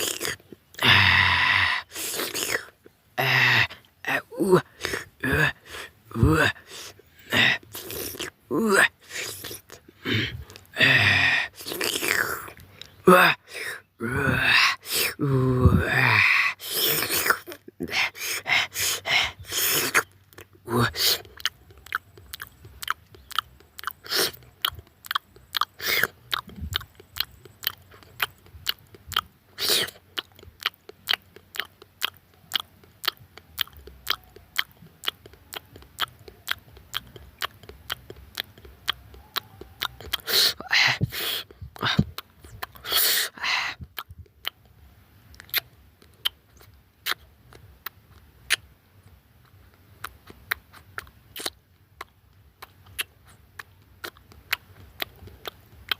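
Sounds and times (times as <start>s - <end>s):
crunchy bites: 0.0s - 43.1s, 49.4s - 55.9s
person chewing meat: 0.0s - 55.9s.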